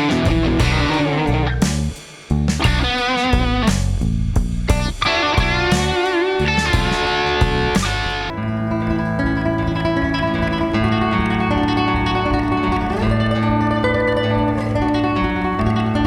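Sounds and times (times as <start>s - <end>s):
electric guitar lead: 0.0s - 1.6s, 4.7s - 16.0s
low bass line: 0.0s - 16.0s.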